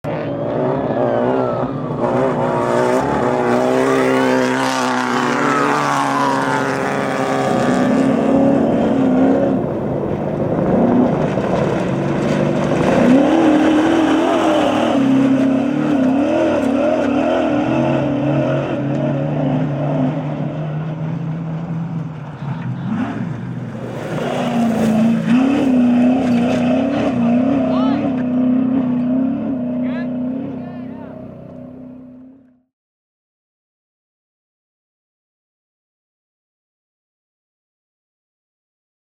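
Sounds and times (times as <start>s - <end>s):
truck engine running hard: 0.0s - 32.6s.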